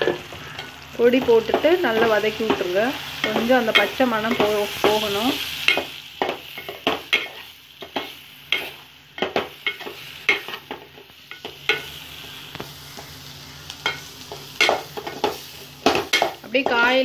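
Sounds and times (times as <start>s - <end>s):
faint frying sizzle: 0.0s - 17.0s.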